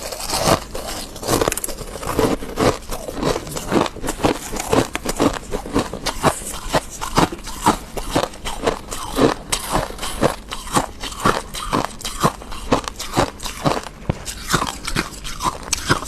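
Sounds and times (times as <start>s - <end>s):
frost crunching being chewed: 0.0s - 16.0s.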